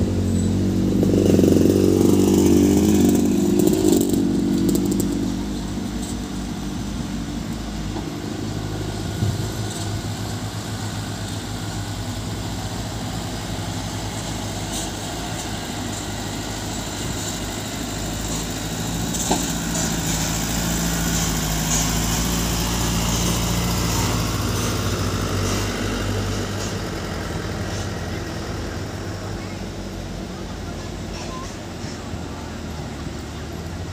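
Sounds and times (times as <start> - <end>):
diesel trucks driving on gravel: 0.0 - 33.9.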